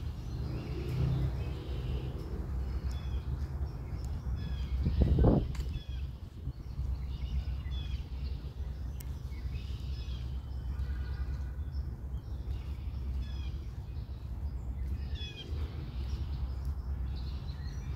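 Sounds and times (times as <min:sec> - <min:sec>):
small birds chirping: 0:00.0 - 0:17.9
steady low rumble: 0:00.0 - 0:17.9.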